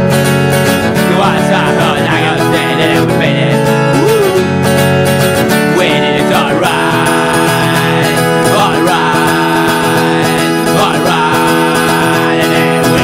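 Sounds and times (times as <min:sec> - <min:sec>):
acoustic guitar punk song: 0:00.0 - 0:13.0.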